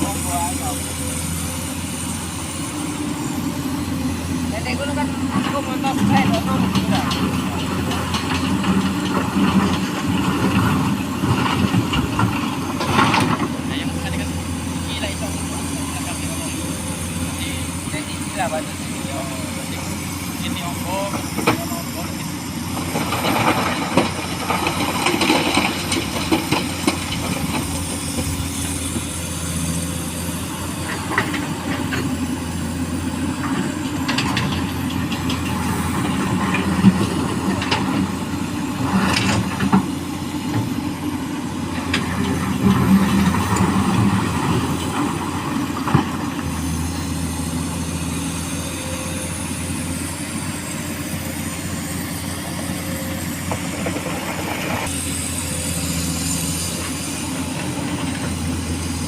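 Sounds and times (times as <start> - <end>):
excavator running: 0.0 - 59.0.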